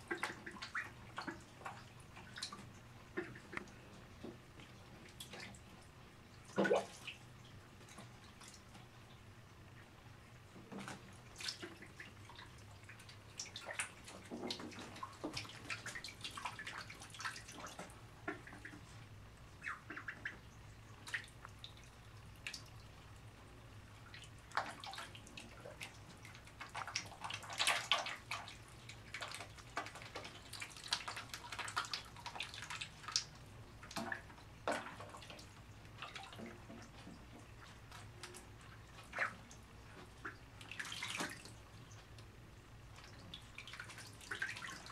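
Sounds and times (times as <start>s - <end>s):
faint low hum: 0.0s - 44.9s
small water splashes and drips: 0.0s - 44.9s.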